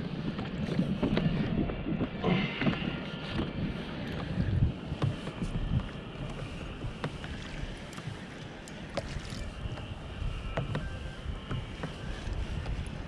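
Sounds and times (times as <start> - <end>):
water lapping against plastic hull: 0.0 - 13.0
wind rumble on microphone: 0.0 - 13.0.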